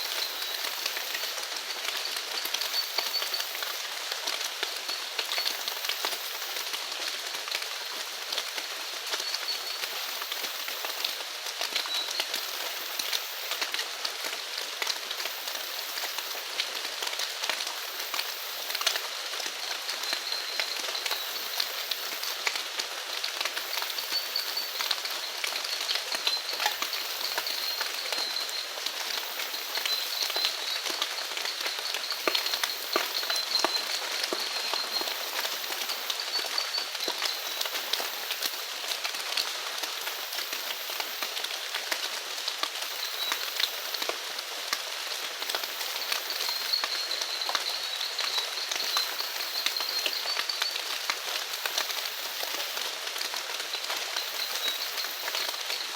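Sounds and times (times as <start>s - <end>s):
rain falling: 0.0s - 55.9s
raindrops ticking on surfaces: 0.0s - 55.9s.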